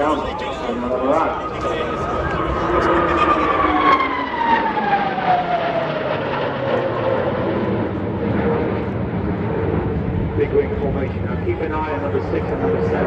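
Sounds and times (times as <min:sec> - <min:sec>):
aircraft flying past: 0:00.0 - 0:13.0.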